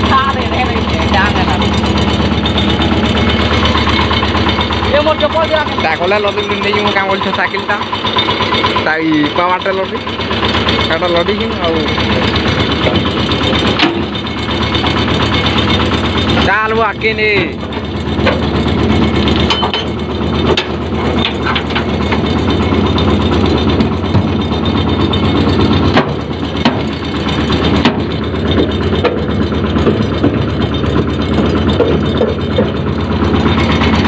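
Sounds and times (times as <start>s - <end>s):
knocks and rattles: 0.0s - 34.0s
tractor engine running: 0.0s - 34.0s.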